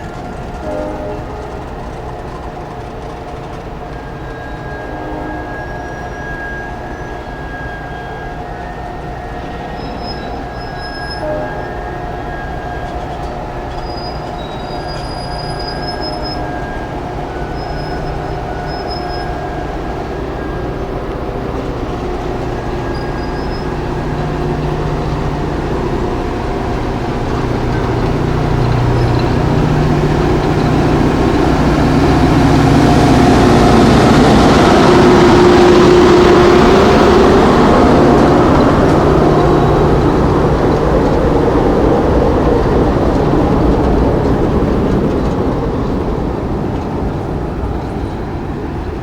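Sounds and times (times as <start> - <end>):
train rolling noise: 0.0 - 49.0
train wheels squealing: 0.0 - 49.0.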